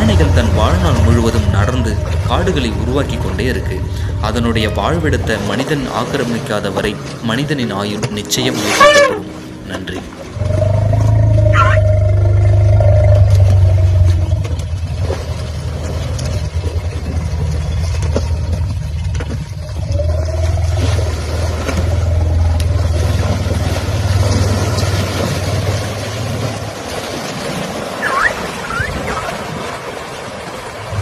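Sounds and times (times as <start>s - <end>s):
elephants rumbling: 0.0s - 31.0s.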